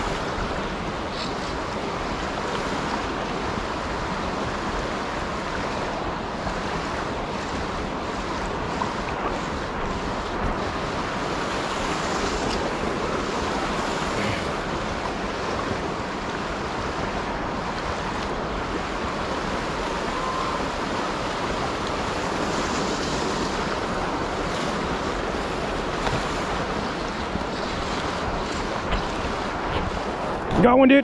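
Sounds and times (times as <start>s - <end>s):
river water rushing over rocks: 0.0s - 31.0s.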